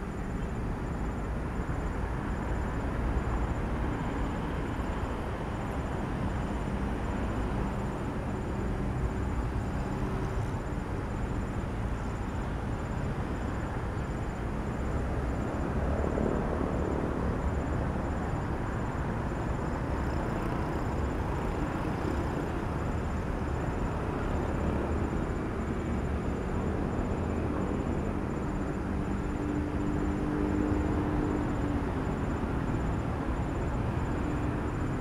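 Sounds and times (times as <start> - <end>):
faint steady tone: 0.0 - 35.0.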